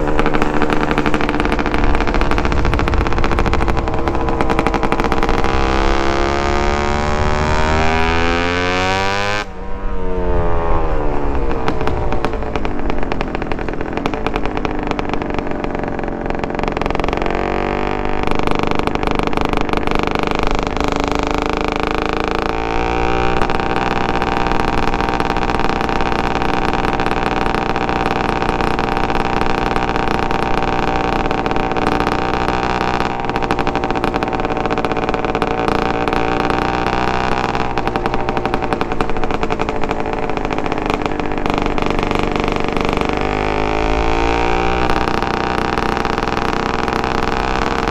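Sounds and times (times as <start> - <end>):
motorcycle two-stroke engine: 0.0 - 47.9.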